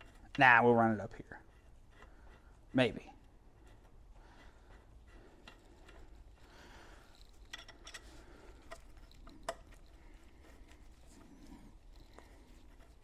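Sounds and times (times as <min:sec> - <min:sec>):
hose fittings clicking and clinking: 0:00.0 - 0:13.0.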